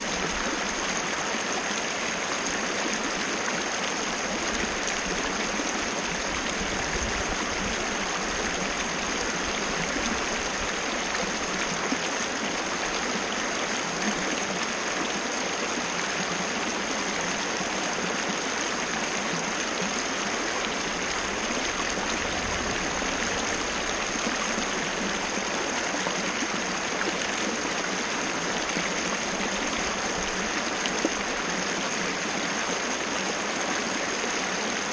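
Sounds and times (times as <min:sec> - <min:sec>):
waterfall rushing water: 0:00.0 - 0:34.9.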